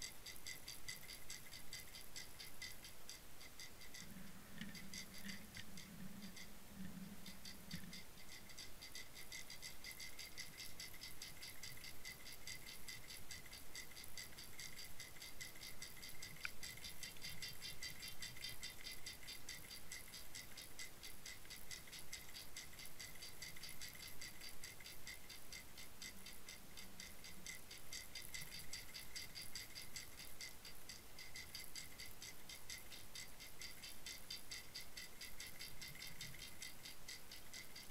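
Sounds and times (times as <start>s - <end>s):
faint steady high tone: 0.0s - 37.9s
underwater ticking and rattling: 0.0s - 37.9s.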